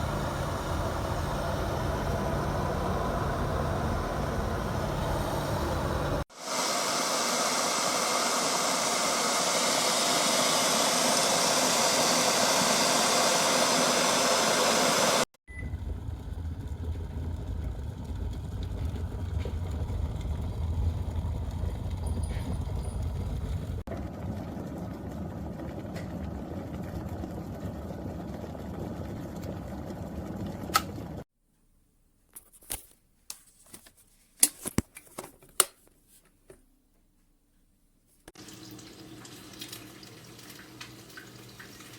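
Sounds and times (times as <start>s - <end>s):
electric kettle heating water: 0.0s - 31.2s, 38.4s - 41.9s.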